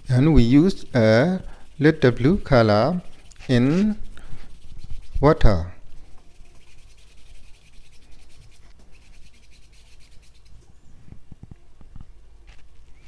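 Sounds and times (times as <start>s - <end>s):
paintbrush scratching on surface: 0.0s - 10.8s.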